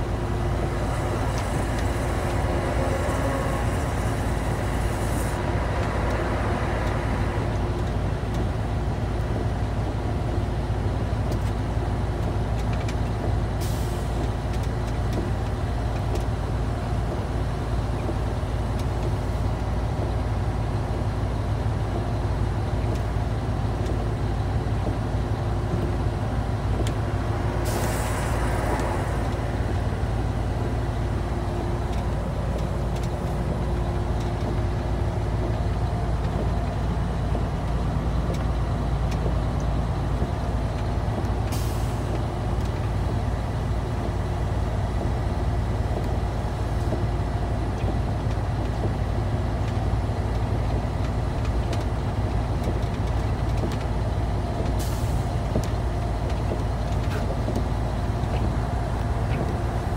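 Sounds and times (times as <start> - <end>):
truck engine and road drone: 0.0 - 59.9.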